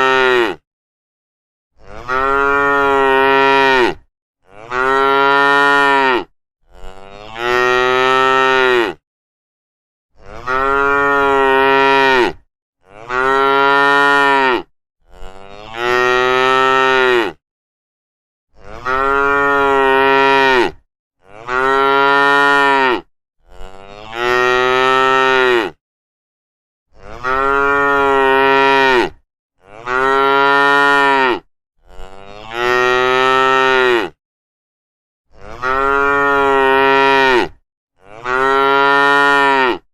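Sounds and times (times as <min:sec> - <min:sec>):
cattle mooing: 0:01.8 - 0:09.0, 0:10.2 - 0:17.4, 0:18.6 - 0:25.8, 0:27.0 - 0:34.2, 0:35.3 - 0:39.9.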